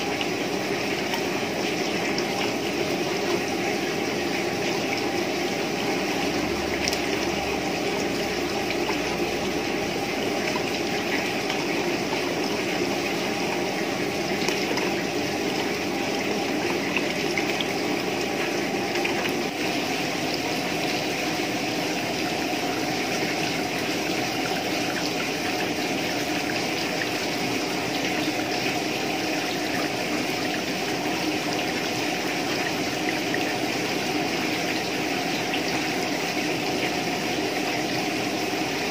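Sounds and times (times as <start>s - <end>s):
liquid trickling into jugs: 0.0s - 38.9s.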